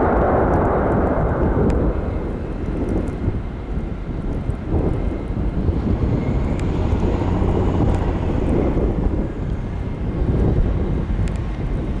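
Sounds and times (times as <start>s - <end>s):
jet engines rumbling: 0.0s - 12.0s
wind buffeting microphone: 0.0s - 12.0s.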